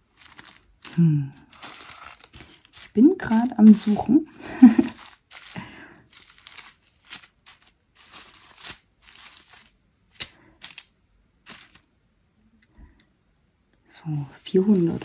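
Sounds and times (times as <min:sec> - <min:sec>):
plastic bags crinkling: 0:00.0 - 0:11.9, 0:14.3 - 0:15.0.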